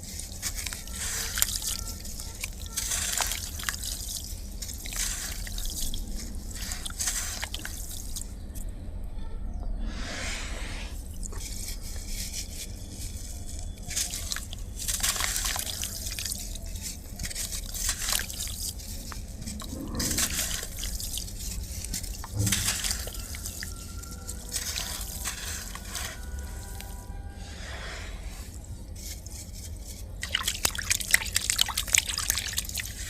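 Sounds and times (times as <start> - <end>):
water dripping and splashing: 0.0 - 8.4, 11.0 - 27.0, 29.0 - 33.0
sand crumbling: 0.0 - 8.5, 9.9 - 33.0.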